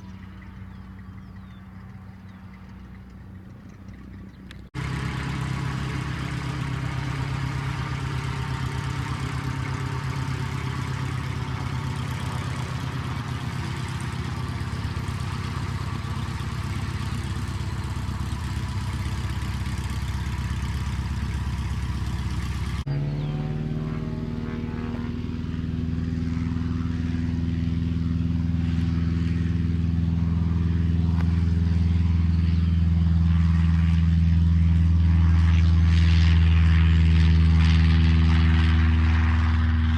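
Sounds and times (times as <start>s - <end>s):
small plane engine and propeller: 0.0s - 39.9s.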